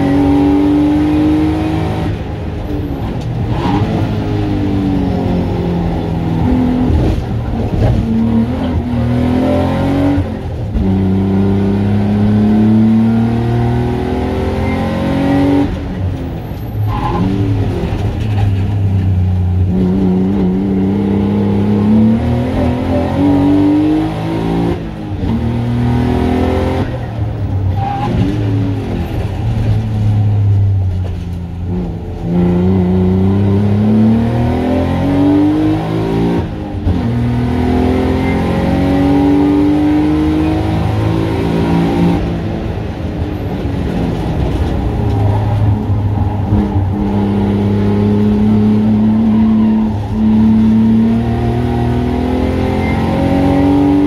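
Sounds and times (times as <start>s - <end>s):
race car engine accelerating: 0.0s - 30.0s, 31.7s - 42.5s, 43.2s - 54.0s.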